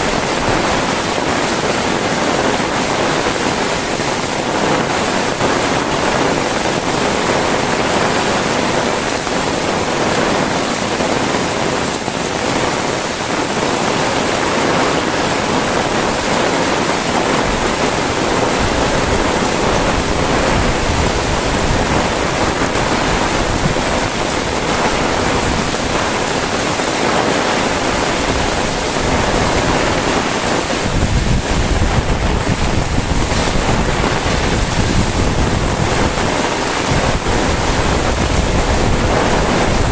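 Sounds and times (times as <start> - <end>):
heavy rain pouring: 0.0 - 39.9
wind rumbling on microphone: 0.0 - 39.9.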